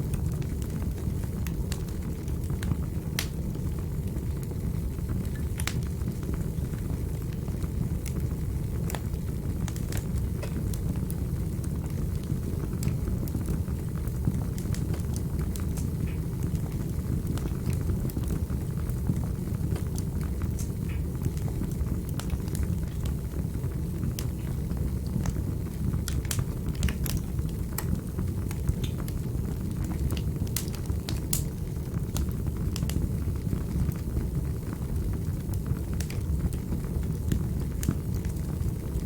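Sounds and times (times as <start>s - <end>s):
fire crackling in a fireplace: 0.0s - 39.0s.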